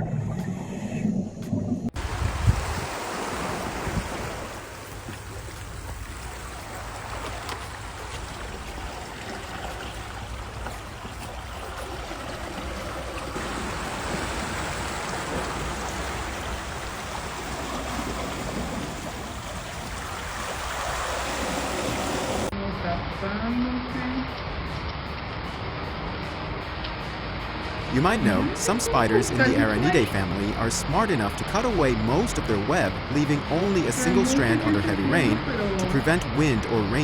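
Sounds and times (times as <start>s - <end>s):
rushing water: 2.0s - 22.5s, 27.8s - 37.0s.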